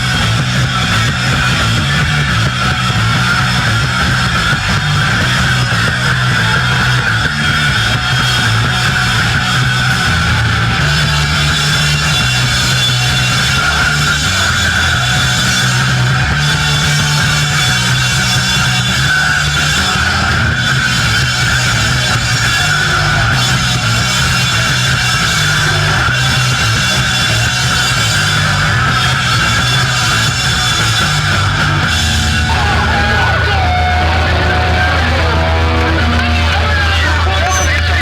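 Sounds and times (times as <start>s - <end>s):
punk rock band playing live: 0.0s - 38.0s.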